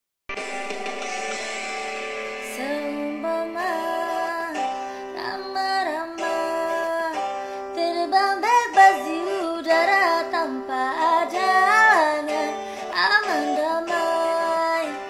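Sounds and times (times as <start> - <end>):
instrumental backing music: 0.3 - 15.0
woman singing: 2.4 - 15.0.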